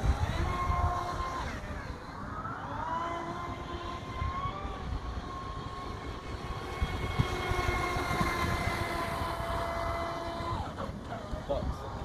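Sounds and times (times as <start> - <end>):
electric motor high whine: 0.0 - 11.0
wind rumble on microphone: 0.0 - 12.0.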